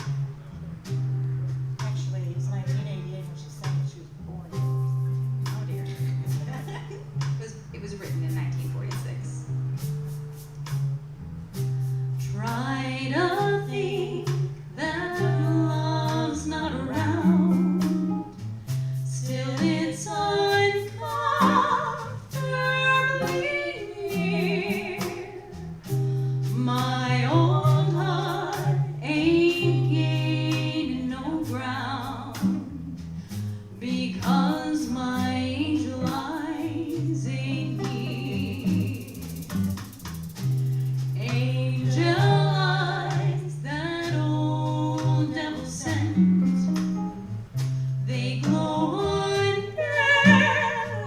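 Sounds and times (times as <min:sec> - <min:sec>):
bass line: 0:00.0 - 0:51.0
guitar: 0:00.0 - 0:51.0.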